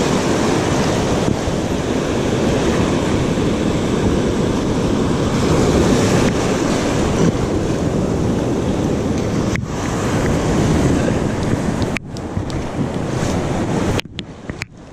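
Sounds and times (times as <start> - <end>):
ocean surf washing: 0.0 - 14.9
wind buffeting microphone: 0.0 - 14.9.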